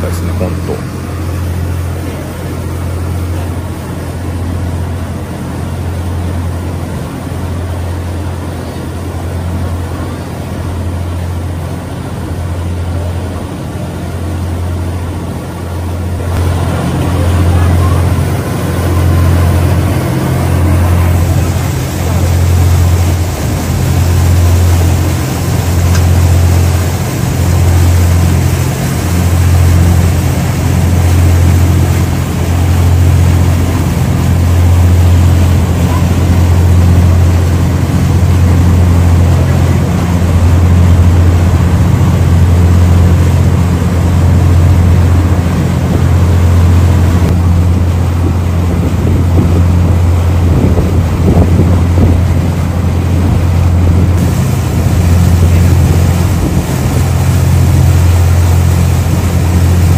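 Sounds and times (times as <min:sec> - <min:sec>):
broad rushing noise: 0:00.0 - 0:59.9
ship engine drone: 0:00.0 - 0:59.9.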